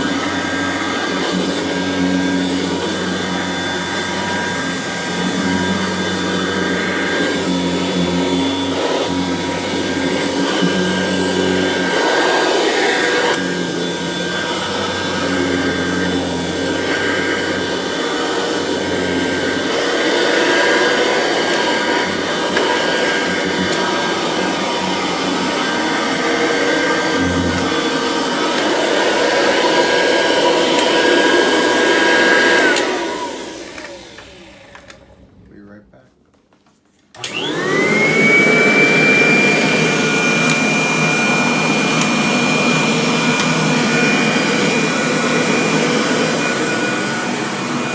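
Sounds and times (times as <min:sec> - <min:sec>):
vacuum cleaner running: 0:00.0 - 0:35.4, 0:37.1 - 0:47.9
vacuum motor winding down: 0:00.0 - 0:35.4, 0:37.1 - 0:47.9.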